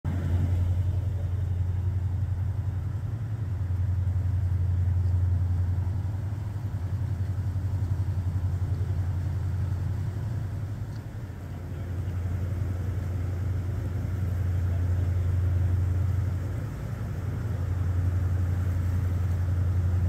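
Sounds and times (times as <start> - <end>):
diesel engines throbbing: 0.1 - 20.0.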